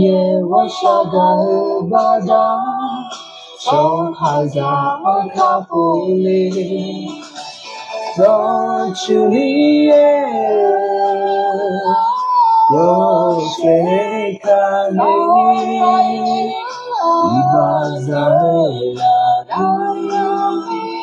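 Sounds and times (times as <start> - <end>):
man singing unaccompanied: 0.0 - 7.4, 8.0 - 12.0, 12.6 - 21.0.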